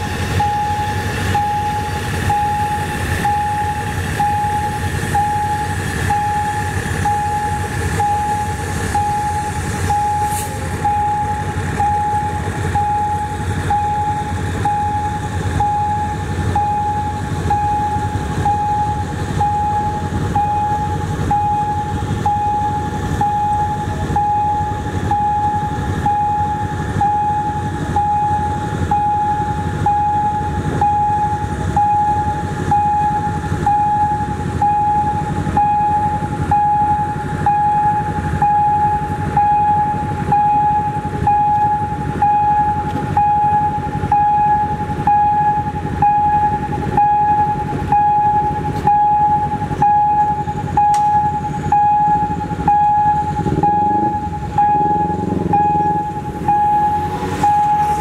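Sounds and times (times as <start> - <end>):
level crossing signal beeping: 0.0 - 58.0
train rumble and wheel clatter: 0.0 - 58.0.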